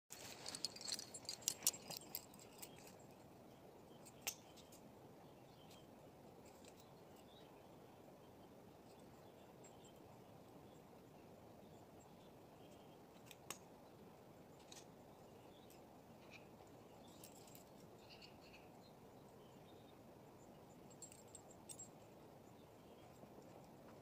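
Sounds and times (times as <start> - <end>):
faint outdoor background: 0.1 - 24.0.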